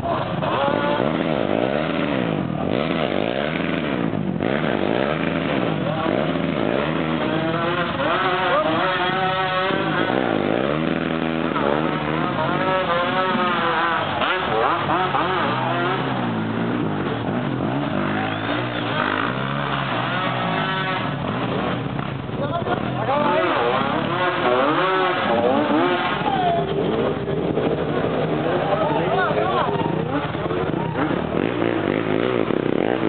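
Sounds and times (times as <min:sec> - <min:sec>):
atv engines revving: 0:00.0 - 0:33.0.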